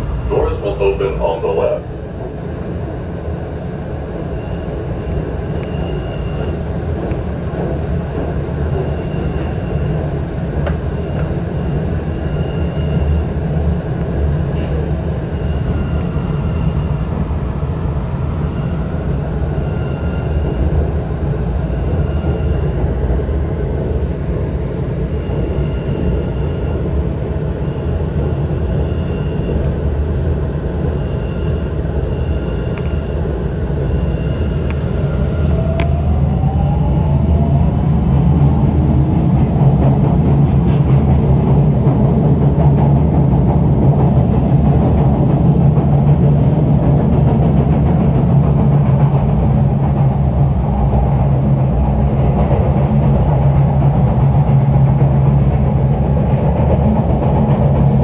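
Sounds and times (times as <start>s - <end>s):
low rumble of wheels on rail: 0.0s - 58.0s.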